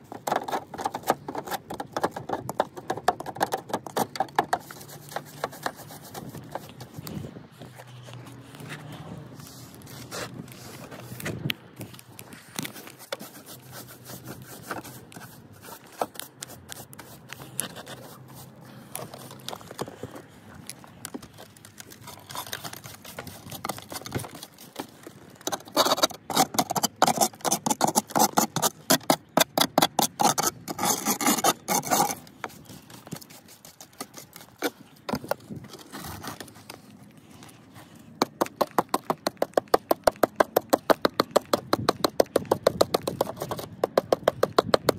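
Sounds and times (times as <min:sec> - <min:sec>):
stiff brush scrubbing brickwork: 0:00.0 - 0:44.9.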